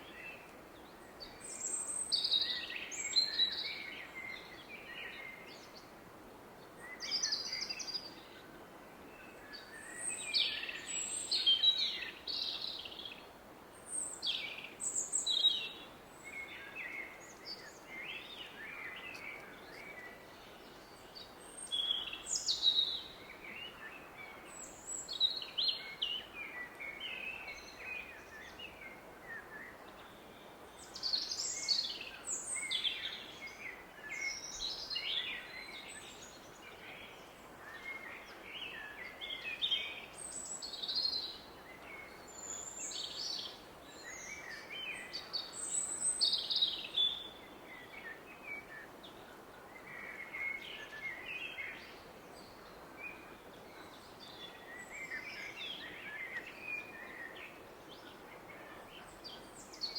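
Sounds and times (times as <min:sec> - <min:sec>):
woodland birds singing: 0:00.0 - 0:05.9, 0:06.6 - 0:08.4, 0:09.1 - 0:59.9.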